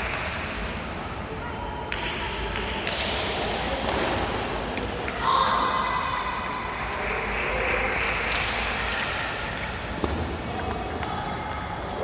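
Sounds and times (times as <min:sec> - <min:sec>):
murmur of hall crowd: 0:00.0 - 0:12.0.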